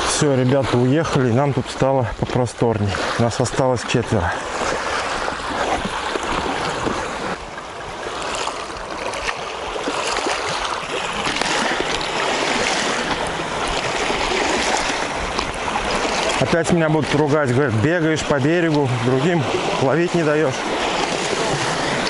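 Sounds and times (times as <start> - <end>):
small waves at water's edge: 0.0 - 22.0
wind buffeting microphone: 2.9 - 22.0.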